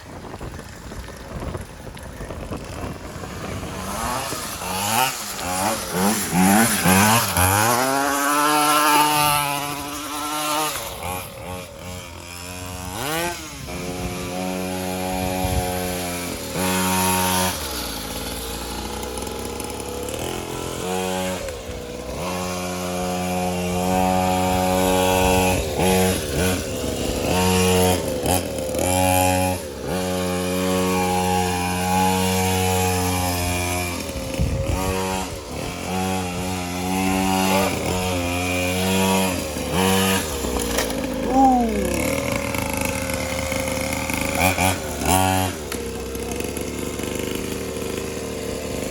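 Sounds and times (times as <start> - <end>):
small motorbike engine revving: 0.0 - 48.9.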